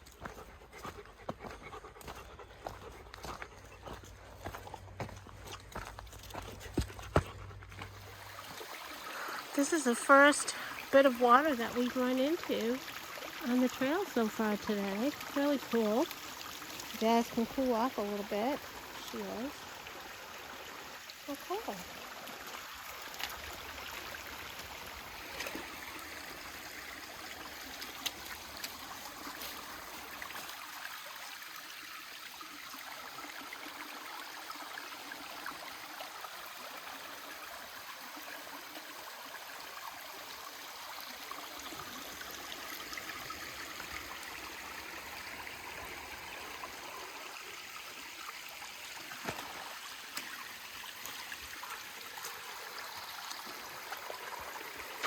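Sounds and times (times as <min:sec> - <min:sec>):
mountain stream running: 0:00.0 - 0:55.0.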